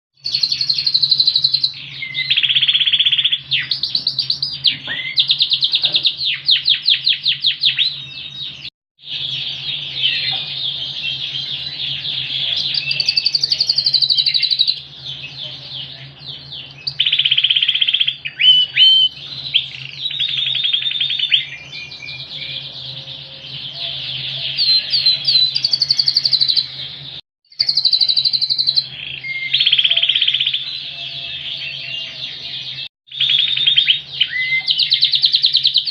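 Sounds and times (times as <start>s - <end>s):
canary trilling song: 0.2s - 35.9s.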